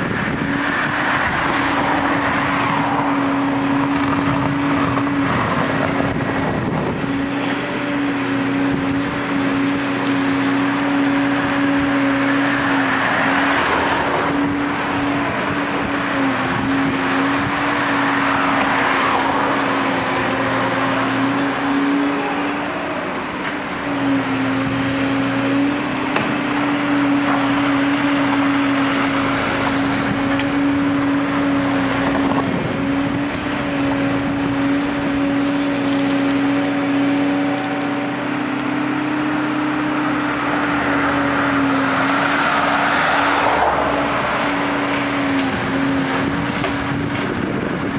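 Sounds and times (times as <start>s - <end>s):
rushing noise: 0.0s - 38.2s, 38.9s - 47.9s
diesel engines running: 0.0s - 47.9s.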